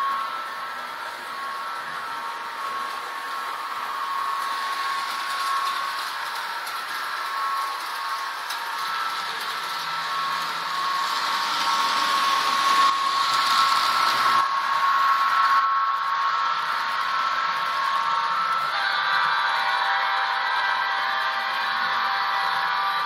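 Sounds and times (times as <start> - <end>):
electric motor whine: 0.0 - 23.0
model train wheels on rails: 0.0 - 23.0.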